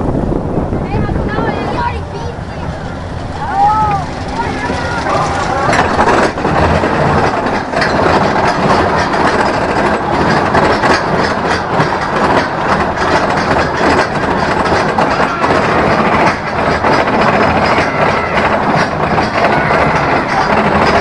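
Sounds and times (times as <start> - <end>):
roller coaster wheels clattering: 0.0 - 21.0.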